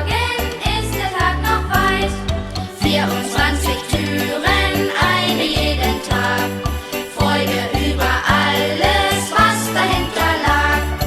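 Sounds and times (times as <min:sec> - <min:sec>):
children's christmas song: 0:00.0 - 0:11.0.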